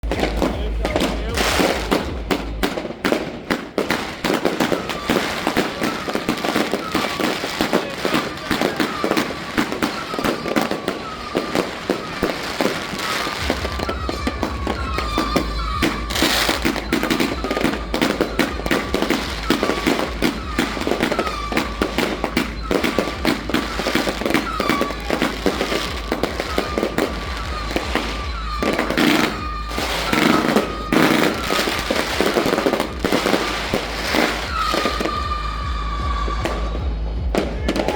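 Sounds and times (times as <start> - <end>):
firework bangs and crackling: 0.0 - 37.9
firework whistling: 0.0 - 37.9.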